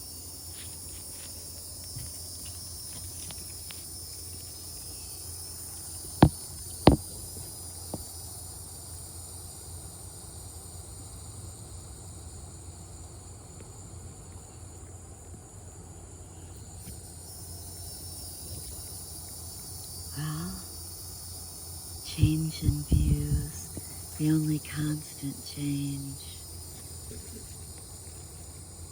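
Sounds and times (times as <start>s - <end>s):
crickets and cicadas droning: 0.0s - 28.9s.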